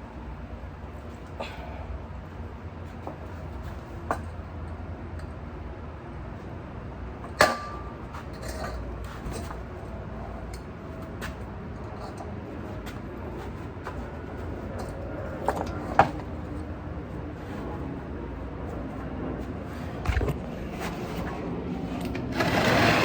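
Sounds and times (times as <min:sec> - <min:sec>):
low steady background rumble: 0:00.0 - 0:23.0.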